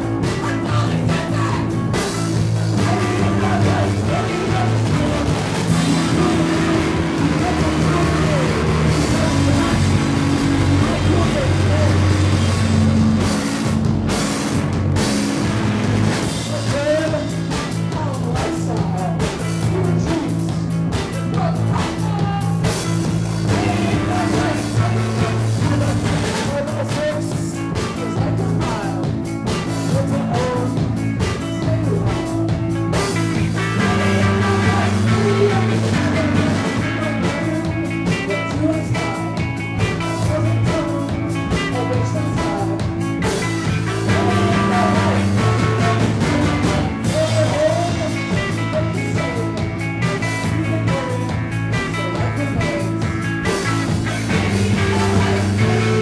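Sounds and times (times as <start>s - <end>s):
person singing: 0.0s - 13.0s, 16.1s - 56.0s
drums: 0.0s - 56.0s
electric guitar: 0.0s - 56.0s.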